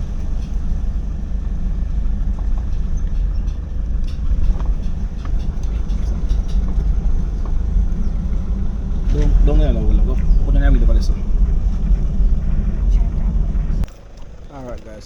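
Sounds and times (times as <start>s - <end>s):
knocks and rattles: 0.0s - 15.0s
vehicle rumbling on rough road: 0.0s - 15.0s.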